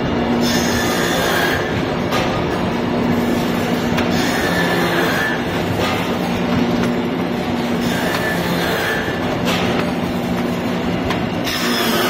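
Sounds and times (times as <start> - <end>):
machine mechanical rumble: 0.0 - 12.0.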